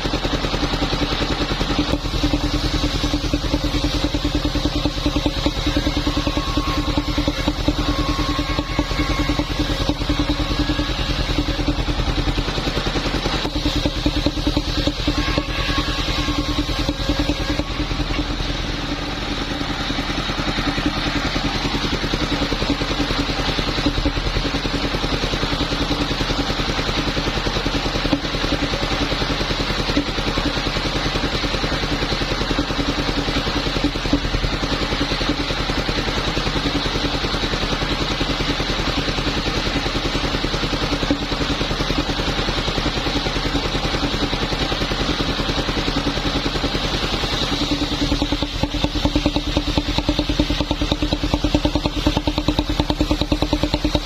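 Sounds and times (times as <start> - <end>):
wood saw engine running: 0.0 - 54.0.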